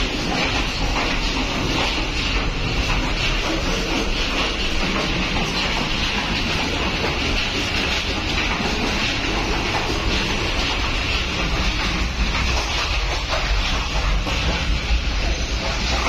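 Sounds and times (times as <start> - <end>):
train running rumble: 0.0 - 16.0.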